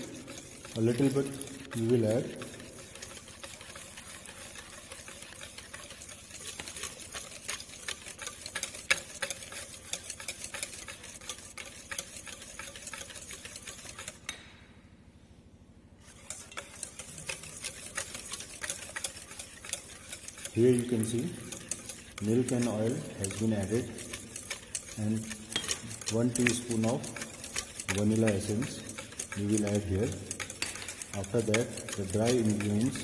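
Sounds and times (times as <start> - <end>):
whisk clicking against metal bowl: 0.0 - 14.4, 16.1 - 33.0.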